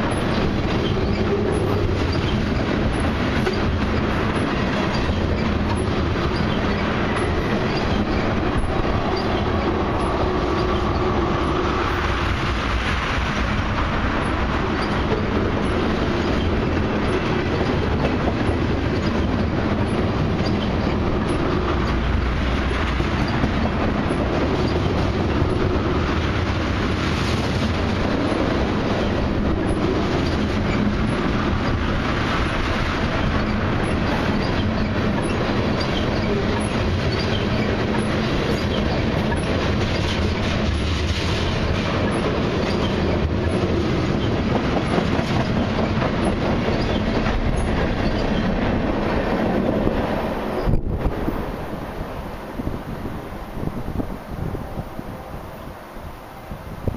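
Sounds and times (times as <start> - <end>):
wheels clicking over rail joints: 0.0 - 55.0
train wheels rumbling on rail: 0.0 - 56.9.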